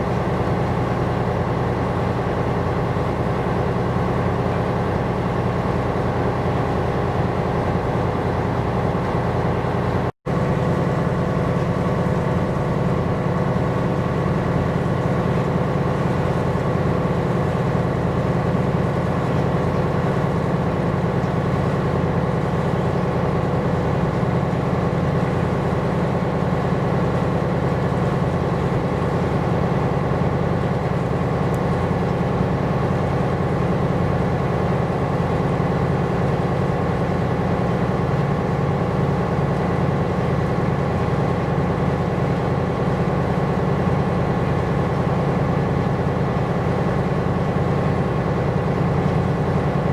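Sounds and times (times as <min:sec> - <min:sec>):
ship engine droning: 0:00.0 - 0:49.9.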